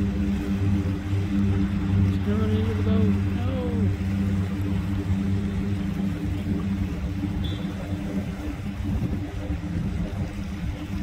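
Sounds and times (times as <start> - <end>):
propeller engine droning: 0.0 - 11.0.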